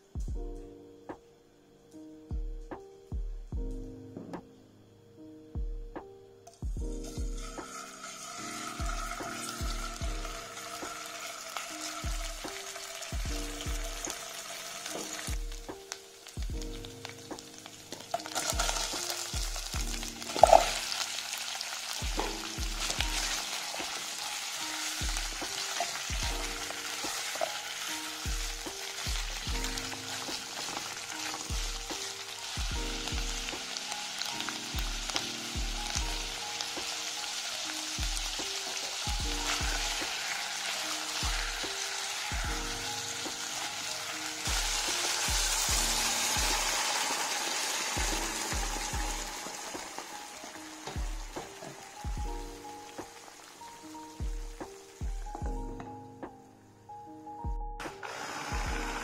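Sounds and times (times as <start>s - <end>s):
soft background music: 0.0s - 59.0s
vegetables sizzling in oil: 6.9s - 55.4s, 57.8s - 59.0s.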